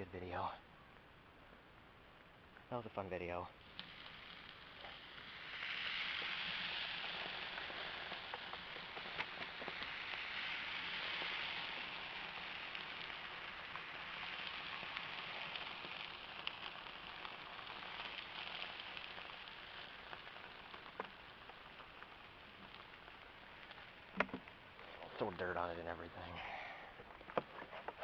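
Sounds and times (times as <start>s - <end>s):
fire hissing and sizzling: 0.0s - 28.0s
small crackles: 0.0s - 28.0s.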